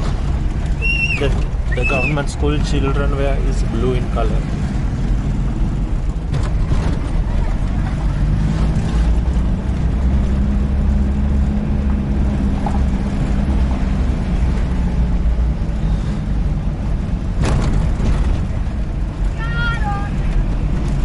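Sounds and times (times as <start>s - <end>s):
jeep engine running: 0.0s - 21.0s.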